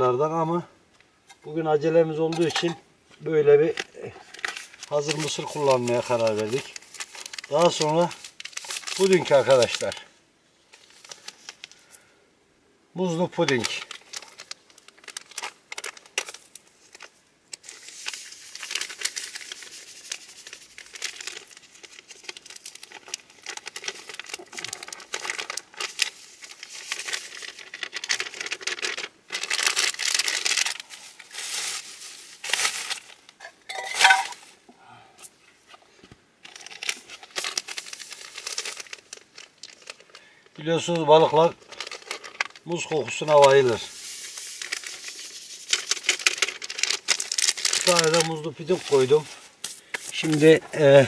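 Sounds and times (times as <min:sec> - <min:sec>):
plastic packets crinkling and tearing: 0:03.6 - 0:10.1, 0:10.7 - 0:12.0, 0:13.0 - 0:34.5, 0:36.4 - 0:51.0.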